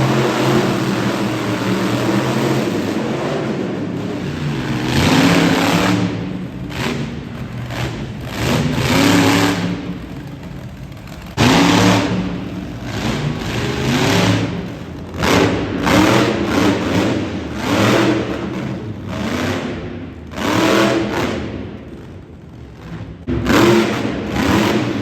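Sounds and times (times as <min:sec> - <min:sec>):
truck engine revving hard: 0:00.0 - 0:21.7, 0:22.8 - 0:25.0.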